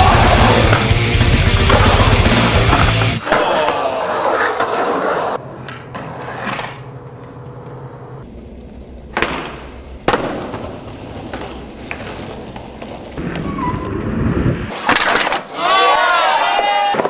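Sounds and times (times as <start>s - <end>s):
skateboard impacts: 0.0s - 7.8s, 9.0s - 13.6s, 14.7s - 17.0s
skateboard wheels rolling on concrete: 0.0s - 17.0s.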